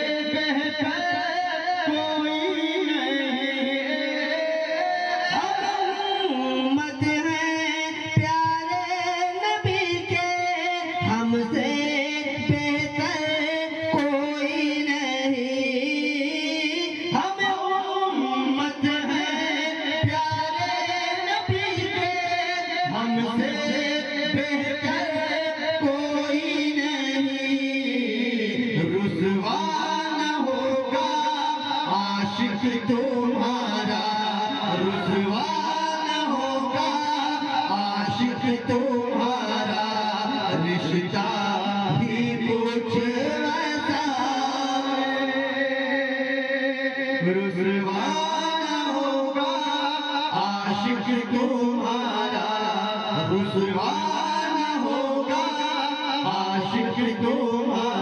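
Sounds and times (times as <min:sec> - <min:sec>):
man singing through loudspeakers: 0:00.0 - 0:58.0.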